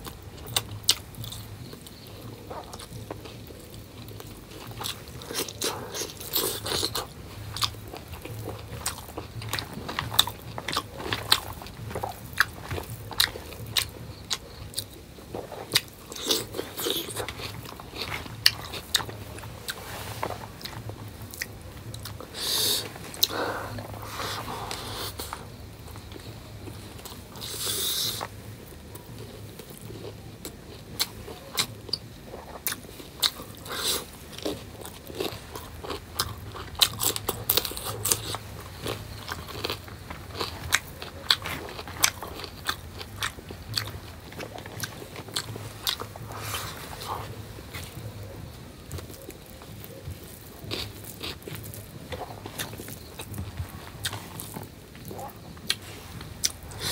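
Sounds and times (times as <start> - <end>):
person chewing with mouth clicks: 0.0 - 56.9.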